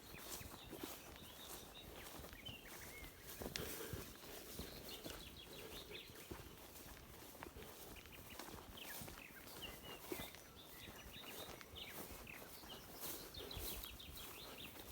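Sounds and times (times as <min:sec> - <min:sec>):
footsteps on forest floor: 0:00.0 - 0:14.9
small birds chirping: 0:00.0 - 0:14.9.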